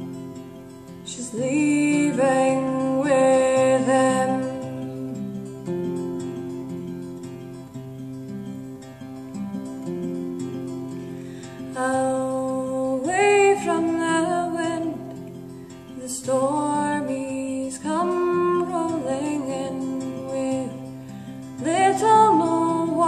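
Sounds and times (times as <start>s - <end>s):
acoustic guitar: 0.0s - 23.0s
woman singing folk song: 0.0s - 23.0s.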